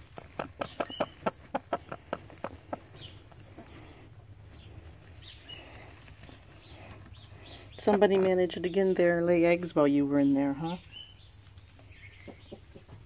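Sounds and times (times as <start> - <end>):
hen clucking: 0.0 - 10.9, 11.6 - 13.0.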